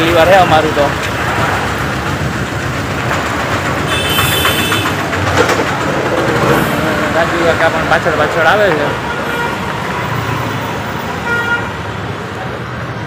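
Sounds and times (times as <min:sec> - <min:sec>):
rumbling street traffic: 0:00.0 - 0:13.0.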